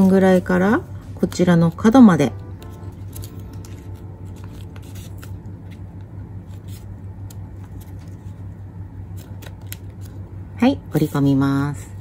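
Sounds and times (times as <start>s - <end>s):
paper crinkling and folding: 0.0s - 10.4s
steady low hum: 0.0s - 12.0s.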